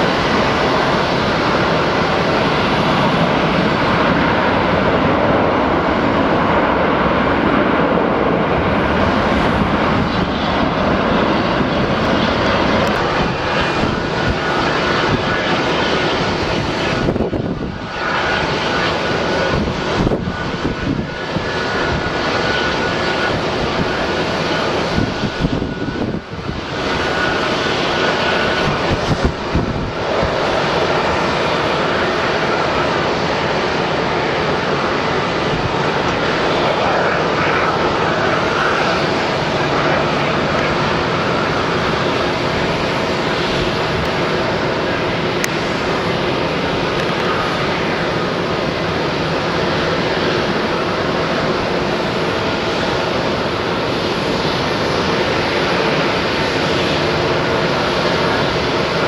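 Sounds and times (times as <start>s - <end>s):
faint engine whine: 0.0s - 59.0s
jet engines roaring: 0.0s - 59.0s.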